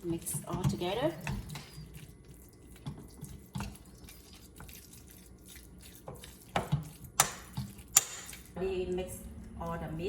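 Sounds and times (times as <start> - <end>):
wet squelching of stirred meat: 0.0 - 8.8.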